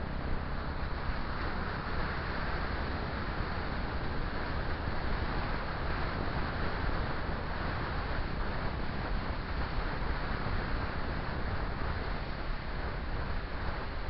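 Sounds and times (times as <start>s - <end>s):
low rumble of motorcycle ride: 0.0s - 14.0s
wind rushing over microphone: 0.0s - 14.0s.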